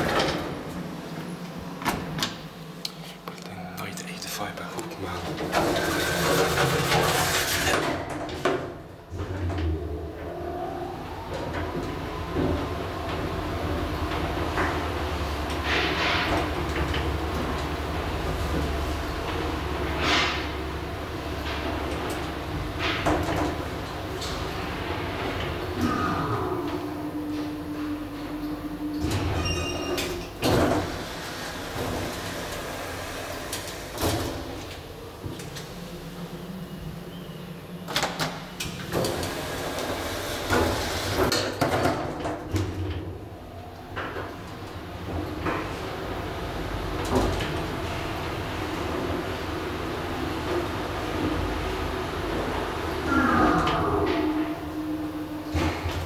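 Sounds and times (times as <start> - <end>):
elevator doors sliding shut: 0.0 - 3.1, 5.0 - 56.0
elevator motor hum and whine: 0.0 - 56.0.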